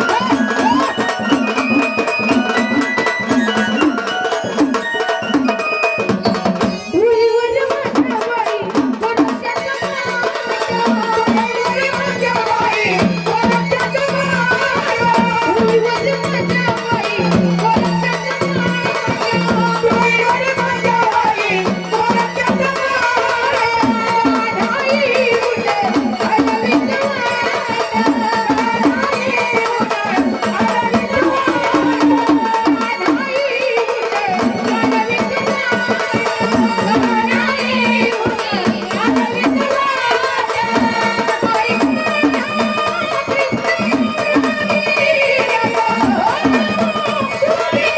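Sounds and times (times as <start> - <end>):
hand drums: 0.0 - 47.9
fast high ticking: 7.7 - 47.9.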